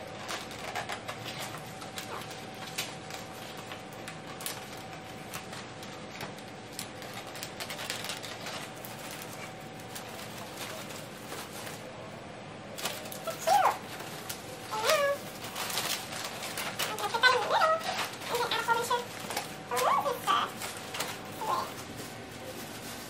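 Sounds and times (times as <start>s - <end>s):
foil balloons crinkling: 0.0s - 11.9s, 12.7s - 23.0s.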